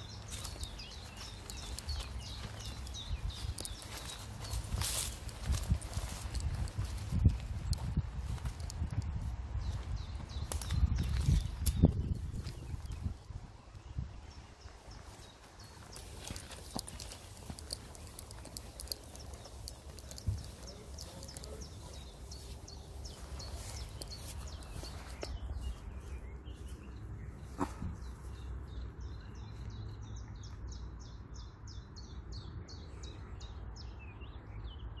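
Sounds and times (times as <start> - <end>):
wind rumble on microphone: 0.0 - 34.8.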